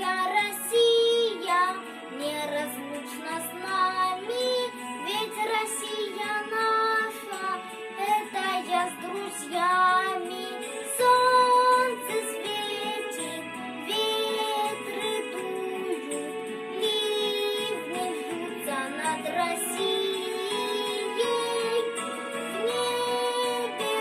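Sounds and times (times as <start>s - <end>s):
child singing: 0.0s - 24.0s
instrumental accompaniment: 0.8s - 24.0s.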